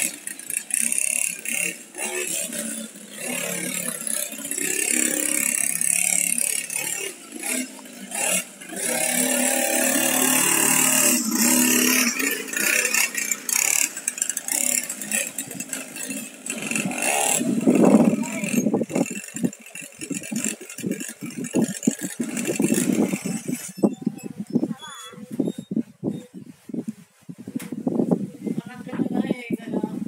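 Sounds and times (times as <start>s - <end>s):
mini dirt bike engine revving: 0.0s - 25.8s.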